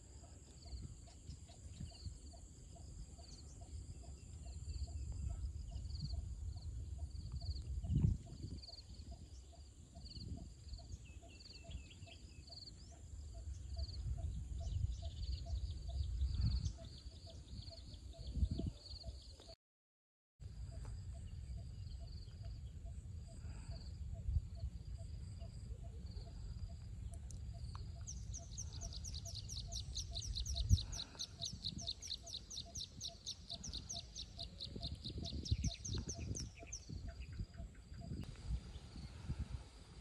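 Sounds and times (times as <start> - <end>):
bird chirping: 0.6 - 19.5, 24.6 - 39.1.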